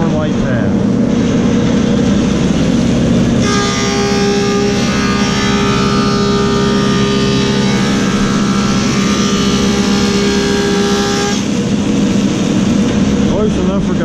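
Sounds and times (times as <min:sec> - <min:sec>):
planer motor hum: 0:00.0 - 0:14.0
planer cutting wood whine: 0:01.5 - 0:13.8.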